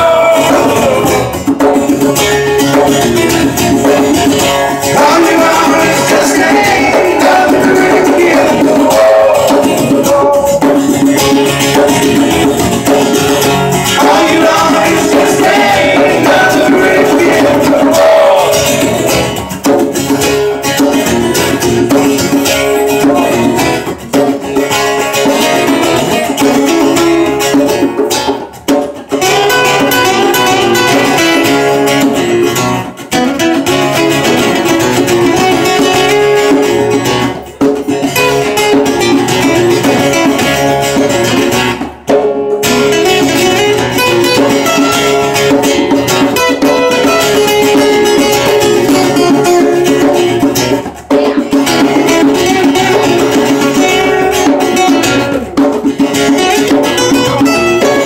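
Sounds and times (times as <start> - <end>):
acoustic guitars strummed and picked: 0.0 - 58.0.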